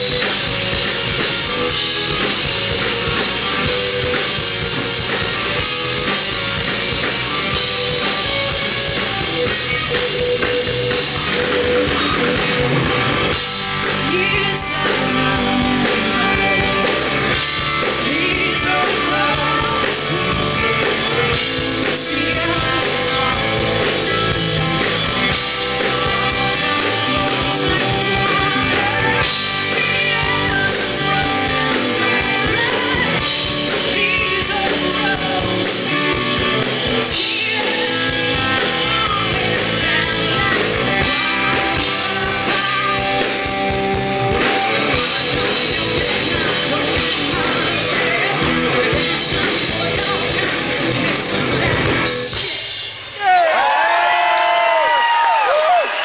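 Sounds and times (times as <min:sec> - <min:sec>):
woman singing lead: 0:00.0 - 0:52.8
drums: 0:00.0 - 0:56.0
electric guitar: 0:00.0 - 0:56.0.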